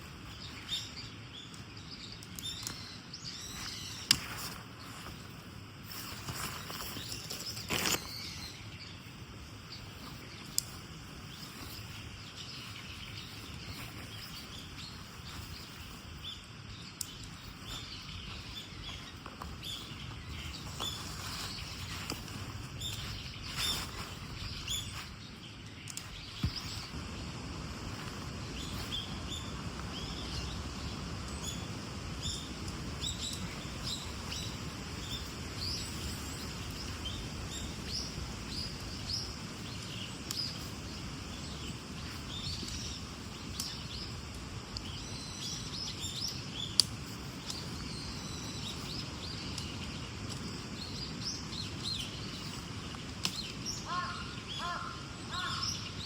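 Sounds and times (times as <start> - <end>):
small birds chirping: 0.0 - 56.0
steady background hush: 0.0 - 56.0.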